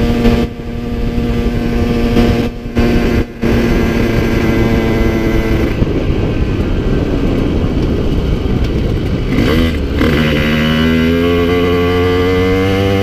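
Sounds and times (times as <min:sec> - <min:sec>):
motorcycle engine buzzing: 0:00.0 - 0:13.0
wind and road noise: 0:00.0 - 0:13.0.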